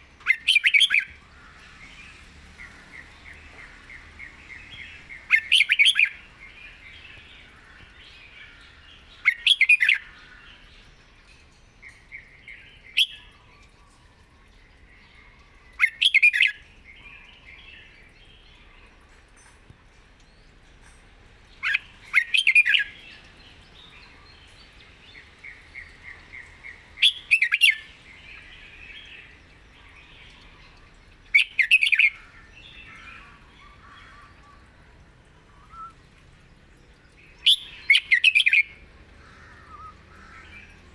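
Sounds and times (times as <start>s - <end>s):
bird singing rich phrases: 0.0s - 19.4s, 20.0s - 40.9s
soft bird chirping: 0.0s - 40.9s.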